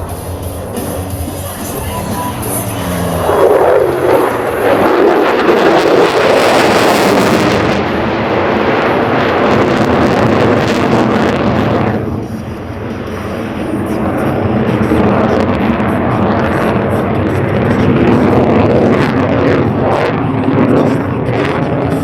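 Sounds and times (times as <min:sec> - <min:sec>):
jet aircraft roaring past: 0:00.0 - 0:22.0
wind buffeting microphone: 0:00.0 - 0:22.0.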